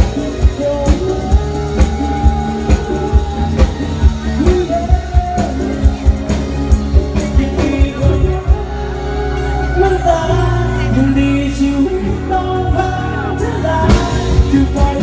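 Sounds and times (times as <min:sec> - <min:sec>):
live pop-rock band: 0:00.0 - 0:15.0
man singing lead vocal: 0:00.0 - 0:15.0.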